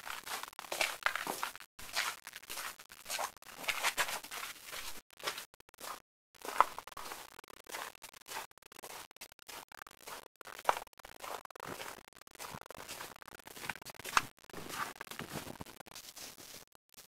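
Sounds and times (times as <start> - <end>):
snow crunching: 0.0 - 16.6.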